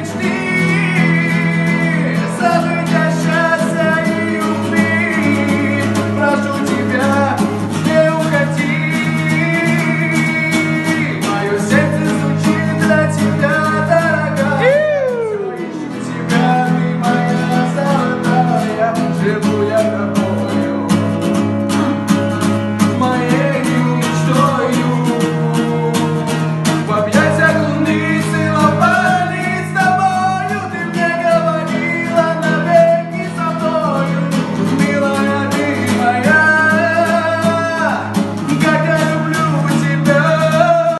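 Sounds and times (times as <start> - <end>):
person singing: 0.0 - 22.1, 22.8 - 40.9
strummed acoustic guitar: 0.0 - 40.9.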